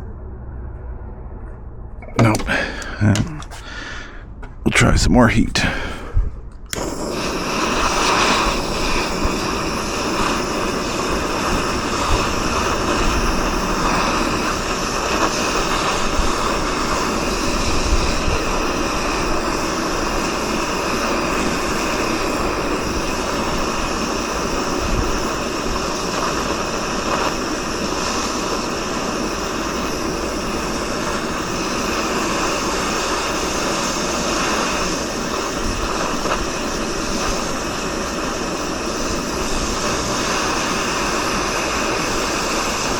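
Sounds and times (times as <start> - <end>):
gas torch hissing: 2.0 - 4.2, 4.8 - 42.9.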